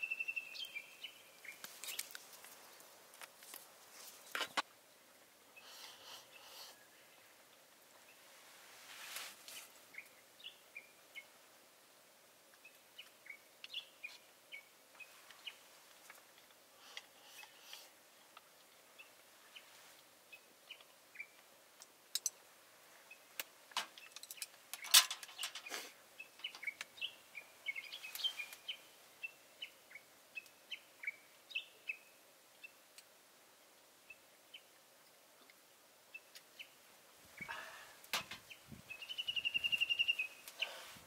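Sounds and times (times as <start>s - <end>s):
small birds chirping: 0.0s - 8.5s, 9.4s - 11.6s, 12.4s - 41.0s.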